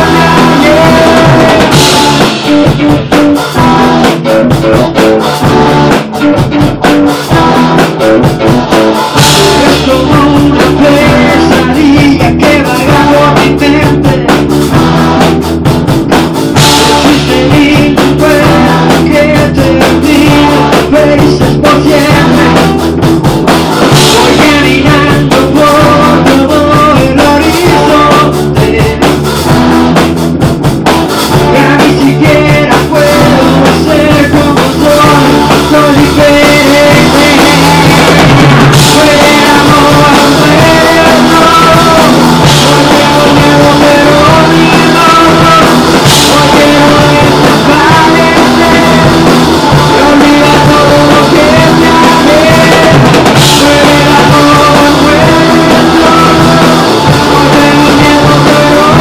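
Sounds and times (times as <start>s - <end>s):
male voice singing: 0.0s - 15.3s, 16.5s - 23.0s, 23.9s - 29.6s, 31.3s - 59.0s
rock band playing live: 0.0s - 59.0s.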